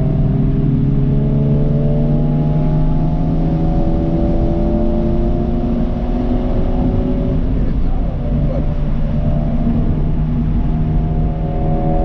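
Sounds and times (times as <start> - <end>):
car engine accelerating: 0.0 - 12.0
road and tyre noise: 0.0 - 12.0.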